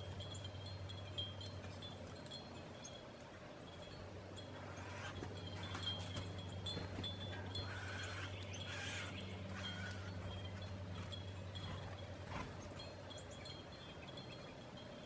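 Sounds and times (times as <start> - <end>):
steady low hum: 0.0 - 15.0
wind chime tinkling: 0.0 - 15.0.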